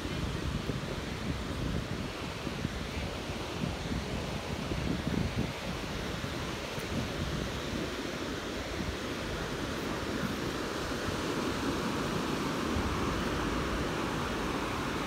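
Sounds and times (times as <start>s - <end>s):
small waves on sandy beach: 0.0s - 15.0s
wind on microphone: 0.0s - 15.0s.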